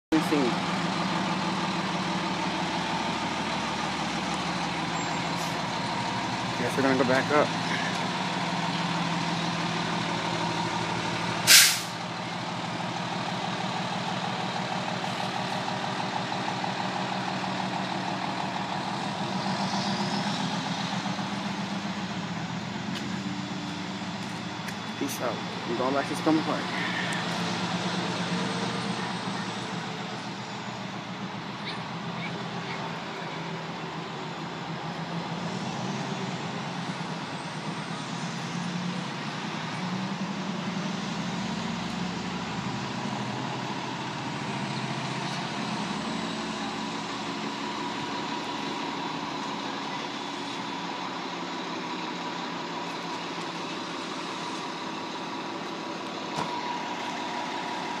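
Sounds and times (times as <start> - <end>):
fire engine diesel engine: 0.0 - 58.0.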